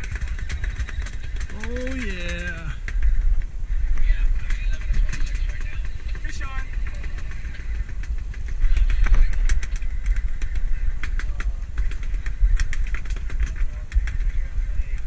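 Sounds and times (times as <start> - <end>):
sharp ticks: 0.0 - 15.0
wind on microphone: 0.0 - 15.0.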